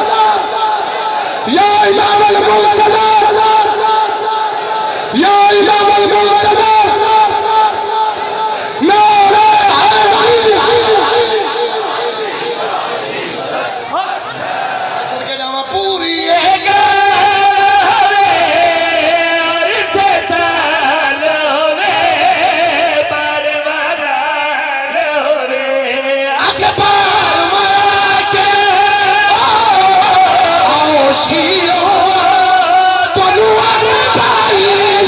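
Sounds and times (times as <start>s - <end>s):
man singing over loudspeakers: 0.0s - 35.0s.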